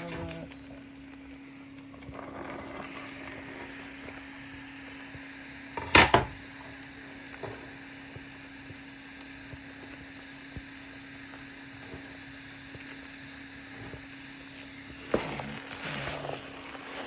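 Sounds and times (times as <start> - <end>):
faint sizzle and stirring: 0.0 - 17.0
steady hum: 0.0 - 17.0.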